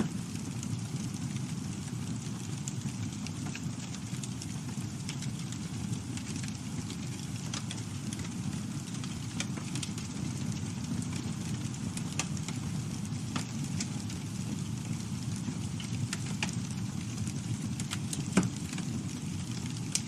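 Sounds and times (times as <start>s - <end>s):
campfire flames rumbling: 0.0s - 20.0s
wood crackling and snapping: 0.0s - 20.0s.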